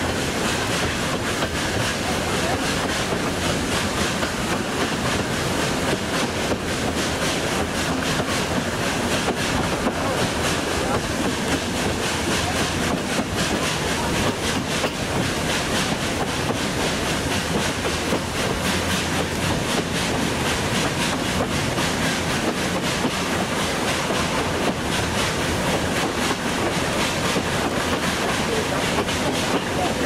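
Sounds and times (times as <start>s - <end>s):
train rumbling on track: 0.0s - 30.0s
train wheel clicks: 0.0s - 30.0s.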